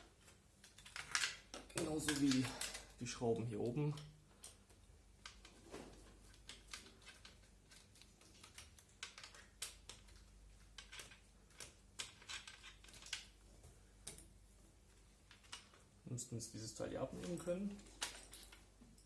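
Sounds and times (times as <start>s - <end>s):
small parts handled: 0.1s - 13.4s, 14.0s - 16.0s.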